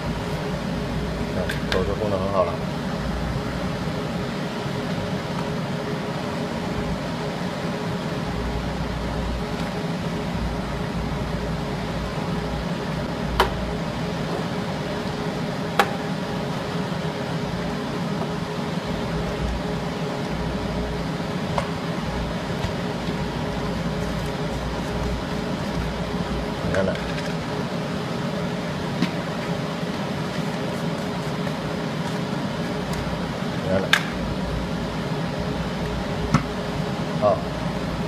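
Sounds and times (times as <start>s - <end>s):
machine fan hum and whir: 0.0s - 38.0s.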